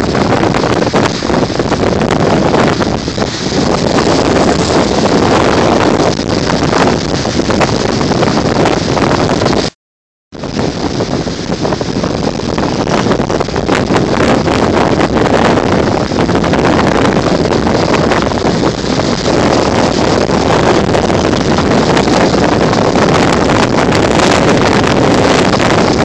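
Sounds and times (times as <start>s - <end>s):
waves breaking on rocks: 0.0s - 9.5s, 10.4s - 26.0s
strong wind on microphone: 0.0s - 26.0s.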